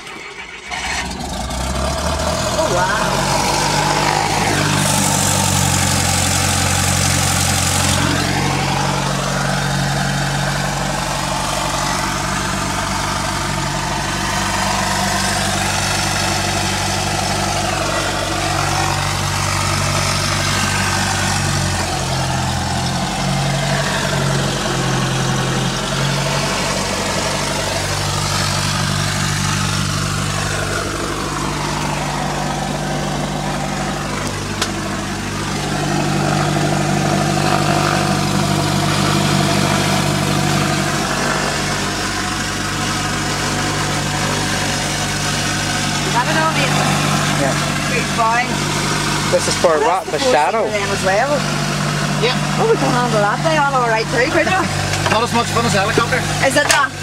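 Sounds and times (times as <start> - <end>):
airplane engine and propeller idling: 0.0 - 57.0.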